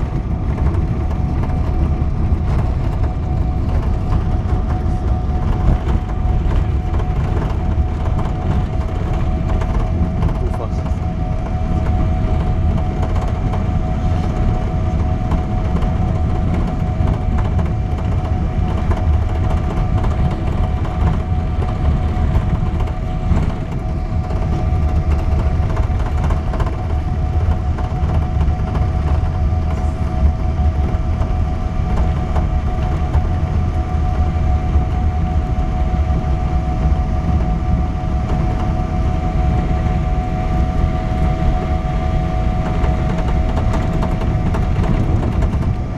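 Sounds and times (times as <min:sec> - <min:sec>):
airliner cabin engine rumble: 0:00.0 - 0:45.9
steady humming tones: 0:00.0 - 0:45.9.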